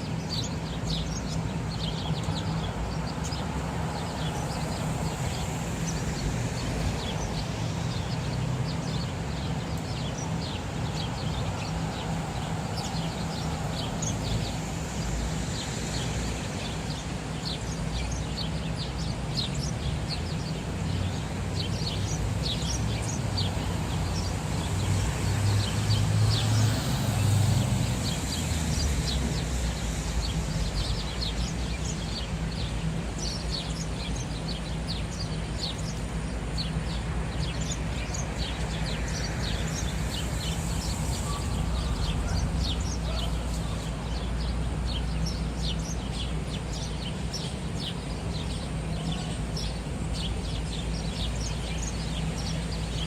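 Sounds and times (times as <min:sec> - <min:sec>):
city traffic rumble: 0:00.0 - 0:53.0
sparrows chirping: 0:00.0 - 0:53.0.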